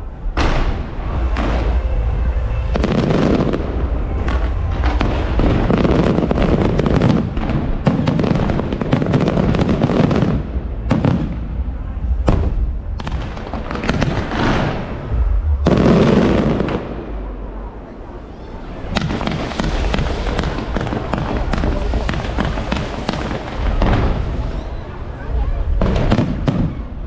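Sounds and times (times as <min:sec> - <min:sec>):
fireworks booms and bangs: 0:00.0 - 0:17.8, 0:18.6 - 0:27.0.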